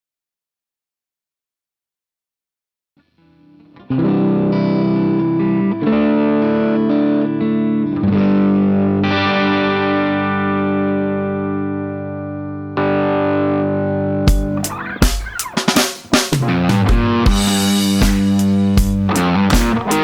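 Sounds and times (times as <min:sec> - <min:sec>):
clean electric guitar chords: 0:03.0 - 0:20.0.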